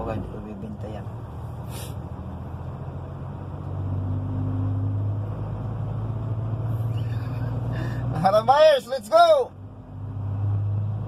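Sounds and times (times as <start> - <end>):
truck diesel engine humming: 0.0 - 11.0.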